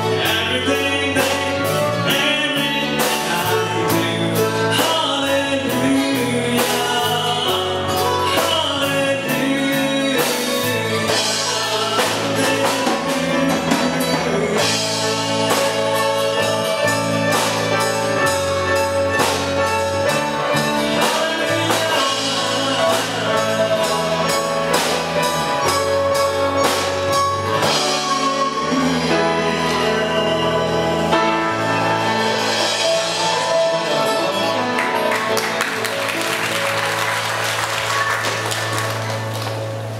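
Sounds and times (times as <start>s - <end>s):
man singing into microphone: 0.0s - 18.9s, 19.6s - 25.8s, 27.5s - 35.1s
drums: 0.0s - 39.9s
guitar: 0.0s - 39.9s.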